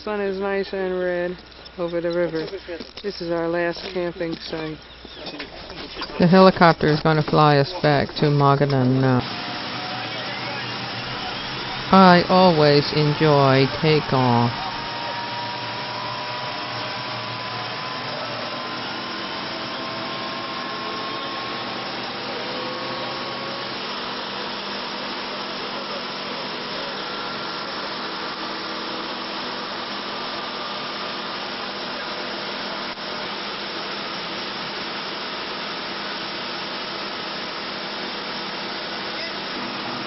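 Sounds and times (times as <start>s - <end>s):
helicopter cabin drone: 0.0s - 40.0s.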